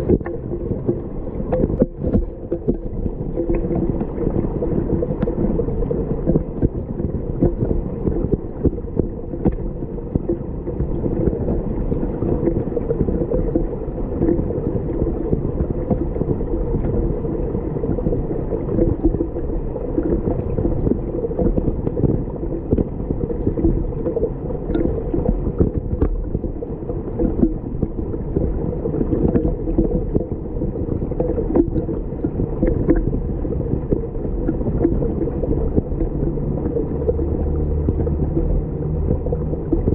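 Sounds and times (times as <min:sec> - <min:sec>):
muffled underwater river gurgling: 0:00.0 - 0:39.9.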